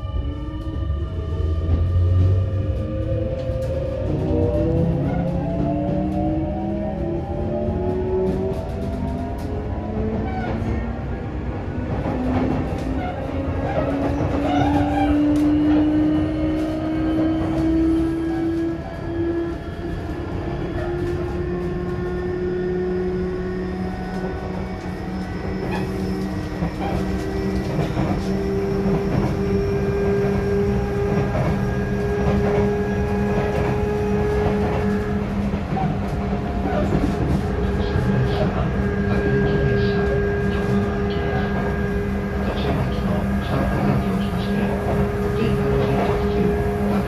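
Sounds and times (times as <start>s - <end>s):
wheels rumbling on rail: 0.0s - 47.0s.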